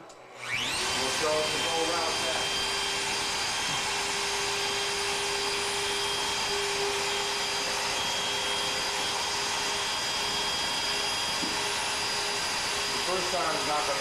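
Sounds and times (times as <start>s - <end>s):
router motor humming: 0.0s - 14.0s.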